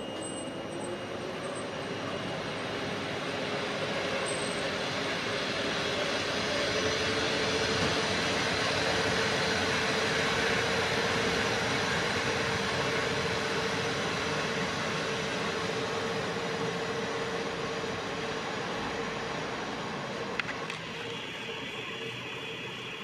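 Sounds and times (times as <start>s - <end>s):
train coaches rolling rumble: 0.0s - 23.0s.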